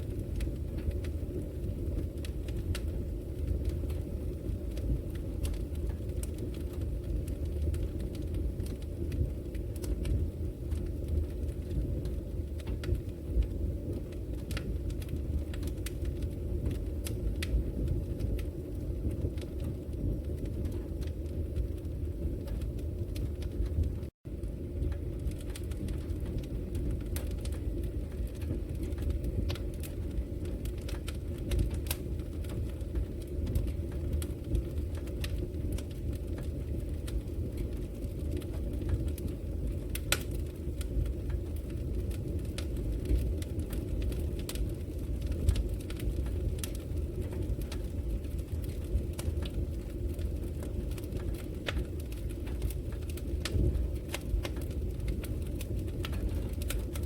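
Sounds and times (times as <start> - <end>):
fire flames rumbling: 0.0 - 57.0
logs crackling and popping: 0.0 - 57.0.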